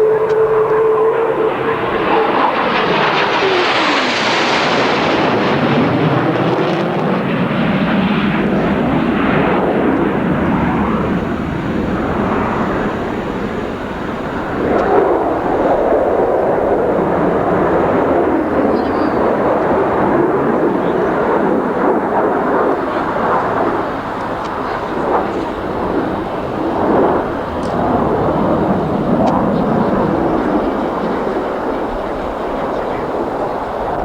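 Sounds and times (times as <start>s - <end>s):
jet fighter passing: 0.0s - 34.0s.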